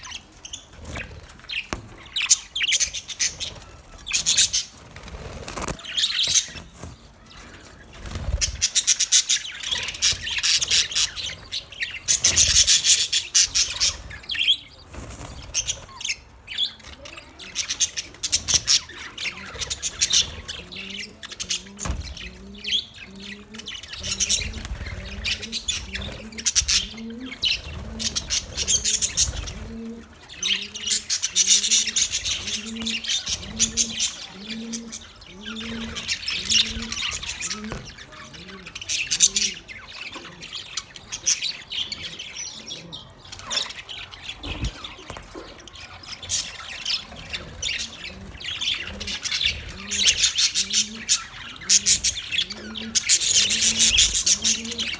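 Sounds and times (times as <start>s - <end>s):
parrots chirping and squawking: 0.0s - 54.9s.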